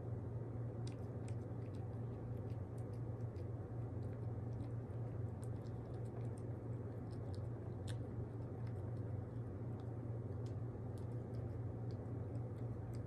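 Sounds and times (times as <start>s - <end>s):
low hum: 0.0s - 13.0s
pet chewing wet food: 0.6s - 13.0s.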